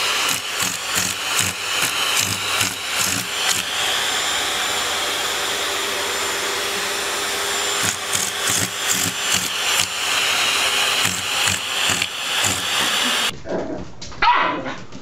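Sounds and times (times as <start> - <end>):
vacuum cleaner suction: 0.0 - 13.3.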